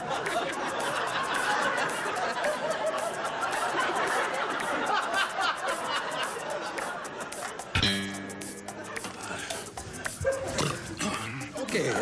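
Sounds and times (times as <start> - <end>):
audience chattering and laughing: 0.0 - 12.0.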